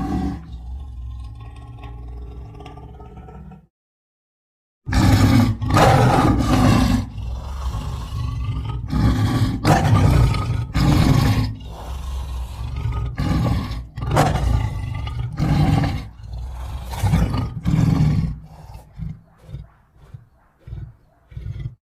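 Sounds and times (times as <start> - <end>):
lion roaring and grunting: 0.0 - 3.7, 4.9 - 21.8.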